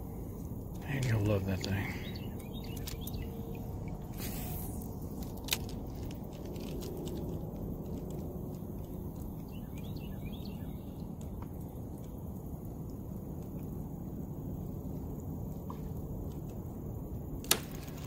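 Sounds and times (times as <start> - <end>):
low rumble: 0.0 - 17.4.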